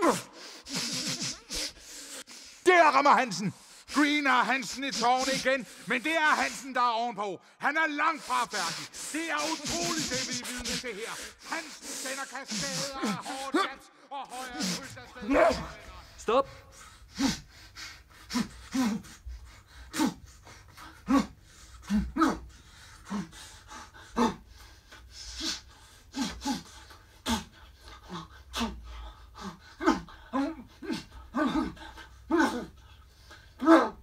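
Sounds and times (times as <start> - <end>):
man grunting and breathing hard: 0.0 - 6.9, 7.8 - 34.0.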